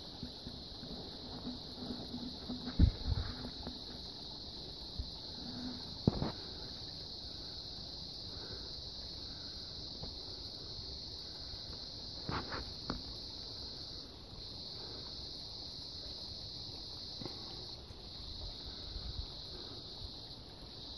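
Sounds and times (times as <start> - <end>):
insects buzzing: 0.0 - 20.9.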